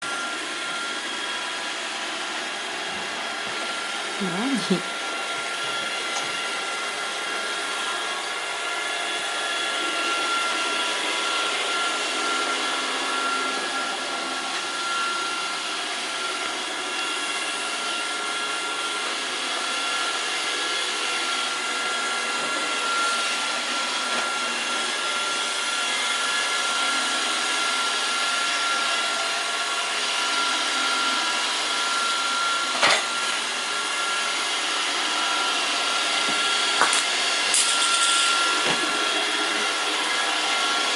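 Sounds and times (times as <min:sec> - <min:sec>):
robot vacuum motor whining: 0:00.1 - 0:40.9.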